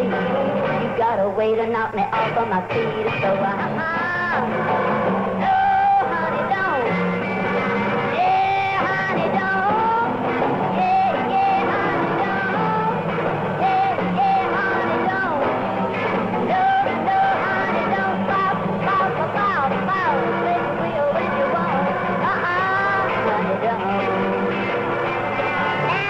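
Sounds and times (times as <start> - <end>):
rock and roll band music: 0.0 - 26.0.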